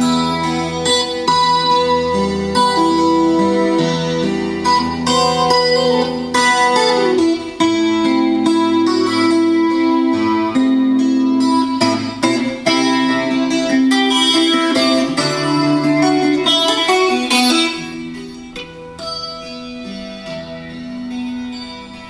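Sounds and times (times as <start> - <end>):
guitar-led music on speakers: 0.0 - 22.0.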